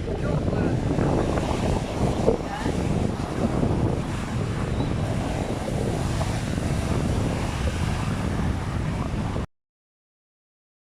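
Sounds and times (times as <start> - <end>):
heavy surf breaking: 0.0 - 9.5
wind buffeting microphone: 0.0 - 9.5.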